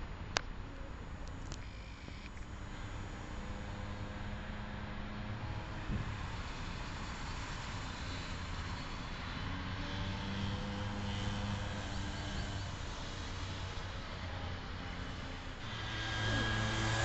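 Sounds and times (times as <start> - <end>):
two-stroke engine at high revs: 1.8 - 17.0.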